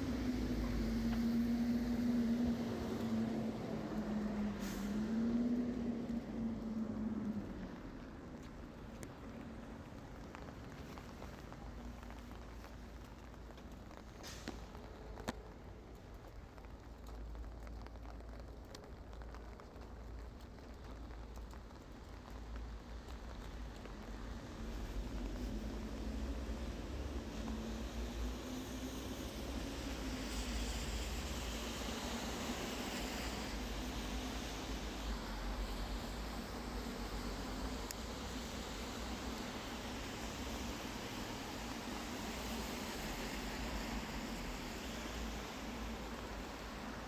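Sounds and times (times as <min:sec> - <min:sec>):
rain hiss: 0:00.0 - 0:47.0
vehicle engine hum: 0:00.0 - 0:47.0.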